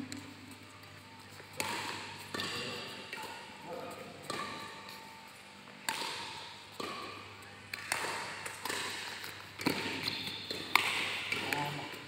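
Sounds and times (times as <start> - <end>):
racket hitting shuttlecock: 1.4 - 5.1, 5.8 - 12.0.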